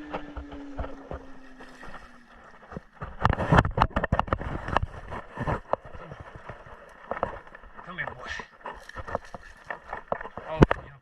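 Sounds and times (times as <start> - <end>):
fish thrashing and splashing: 0.0 - 10.8.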